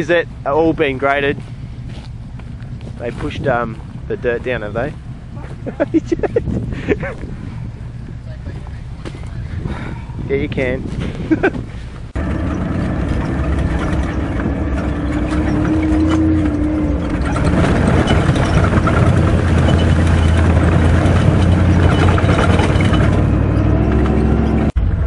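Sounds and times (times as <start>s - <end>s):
engine running steadily: 0.0s - 25.0s
tyre and road noise: 0.0s - 25.0s.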